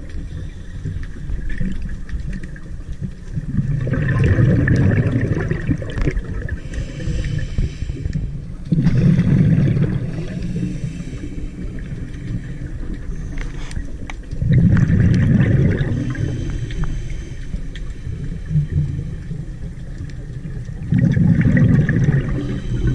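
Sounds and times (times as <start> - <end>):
regulator exhaling bubbles underwater: 1.2 - 22.9.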